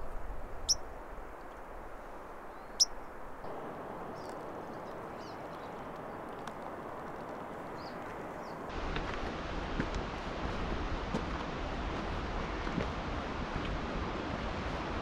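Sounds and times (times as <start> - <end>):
rushing outdoor ambience: 0.0 - 15.0.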